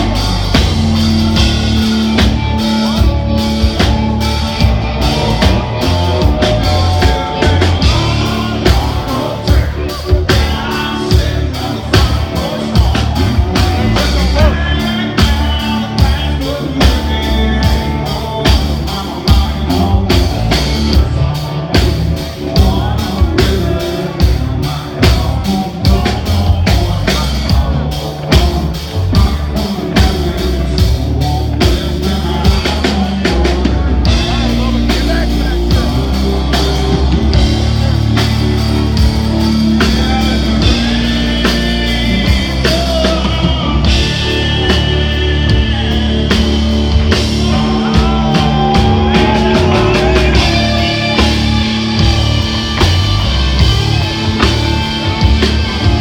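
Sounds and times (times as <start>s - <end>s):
drum kit: 0.0s - 56.0s
electric bass: 0.0s - 56.0s
electric guitars: 0.0s - 56.0s
man singing lead: 0.0s - 56.0s.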